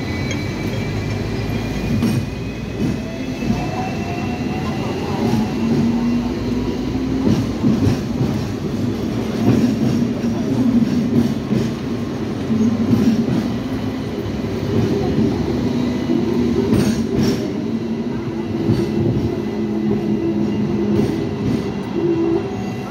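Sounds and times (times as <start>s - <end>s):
electric tram humming: 0.0s - 22.9s.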